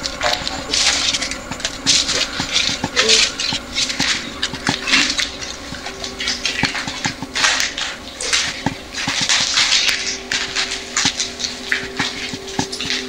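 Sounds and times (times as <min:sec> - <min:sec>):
footsteps scuffing on gritty concrete: 0:00.3 - 0:13.0.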